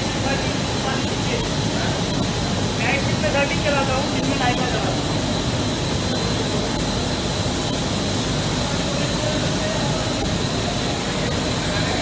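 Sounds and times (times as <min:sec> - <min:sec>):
high machine whine: 0:00.0 - 0:12.0
textile machinery running: 0:00.0 - 0:12.0.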